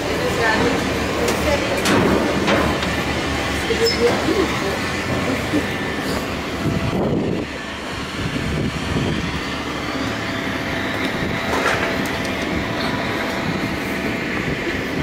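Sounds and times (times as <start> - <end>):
steady mechanical rumble: 0.0 - 15.0.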